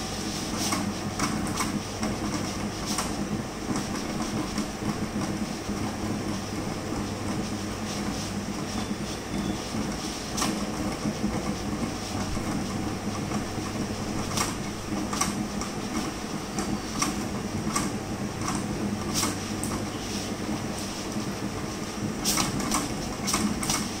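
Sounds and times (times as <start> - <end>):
printer mechanical hum: 0.0 - 24.0.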